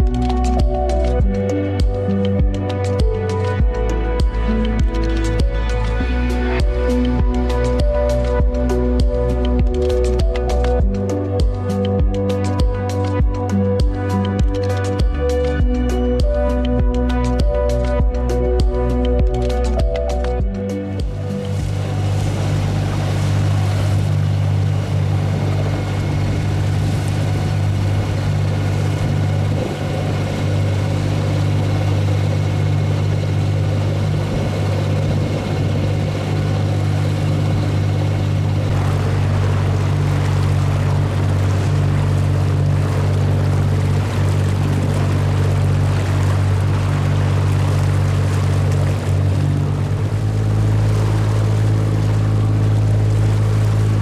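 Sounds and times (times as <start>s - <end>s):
boat engine running: 0.0s - 54.0s
rushing water: 0.0s - 54.0s
wind: 0.0s - 54.0s.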